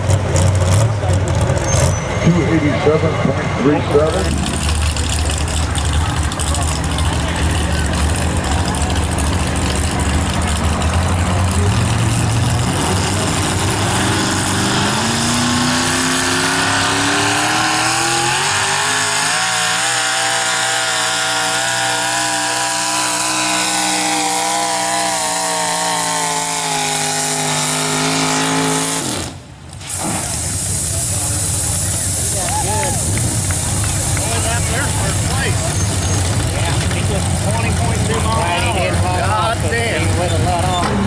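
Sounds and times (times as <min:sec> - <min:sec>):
truck engine revving under load: 0:00.0 - 0:41.0.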